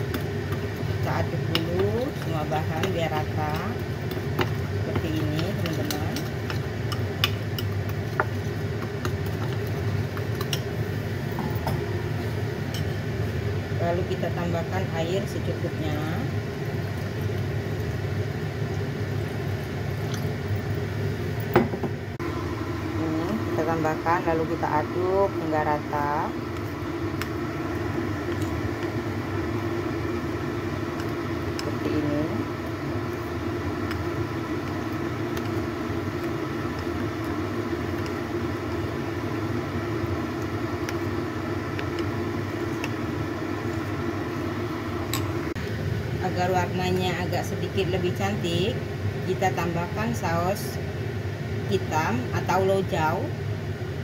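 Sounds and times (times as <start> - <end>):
low mechanical drone: 0.0 - 50.8
low machinery rumble: 0.0 - 53.3.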